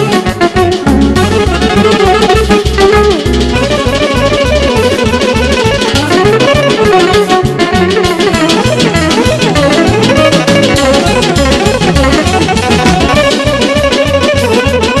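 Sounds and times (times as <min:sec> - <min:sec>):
steady bass beat: 0:00.0 - 0:15.0
wavering melody line: 0:00.5 - 0:14.2.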